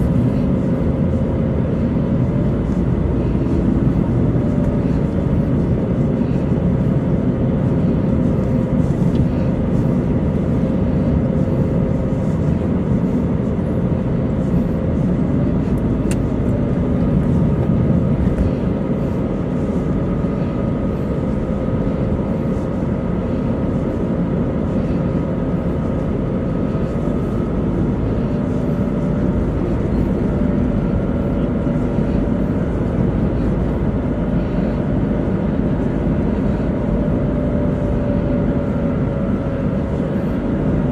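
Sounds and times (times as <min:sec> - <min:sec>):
car engine and tyre rumble: 0:00.0 - 0:40.9
faint humming tone: 0:00.0 - 0:40.9.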